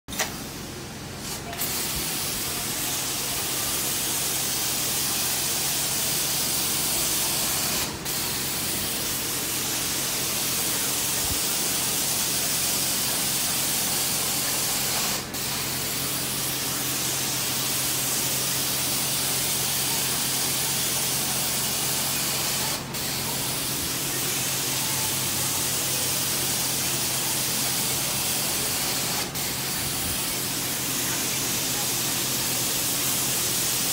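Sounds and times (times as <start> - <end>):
carpet cleaner spray and suction hiss: 0.1 - 33.9.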